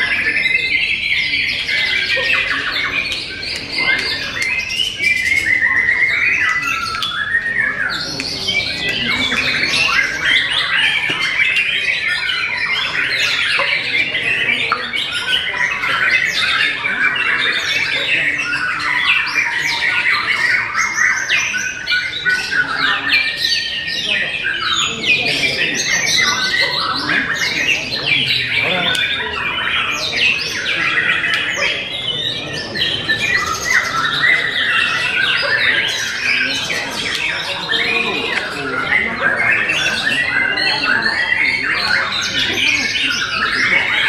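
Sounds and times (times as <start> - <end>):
birds singing rapid chirps and trills: 0.0 - 44.0.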